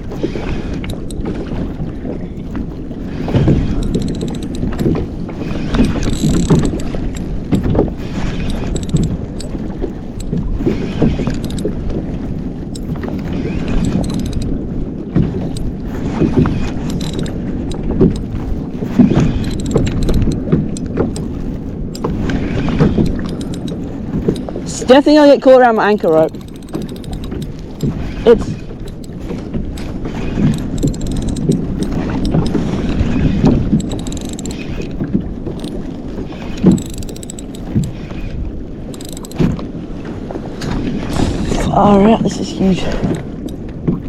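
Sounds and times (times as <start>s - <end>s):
water lapping against hull: 0.0s - 44.0s
wind buffeting microphone: 0.0s - 44.0s.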